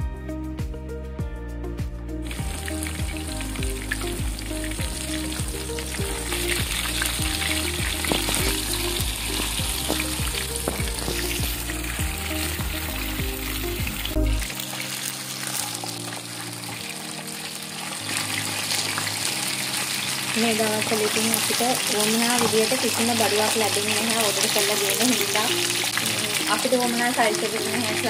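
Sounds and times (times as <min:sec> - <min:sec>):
chicken sizzling in hot oil: 0:02.2 - 0:28.0.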